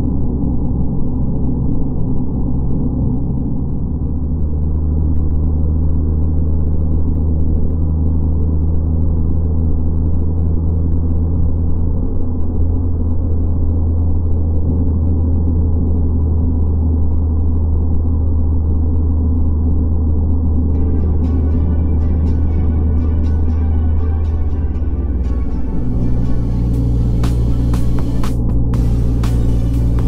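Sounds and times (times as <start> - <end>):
car road and engine noise: 0.0 - 30.0
low hum: 0.0 - 30.0.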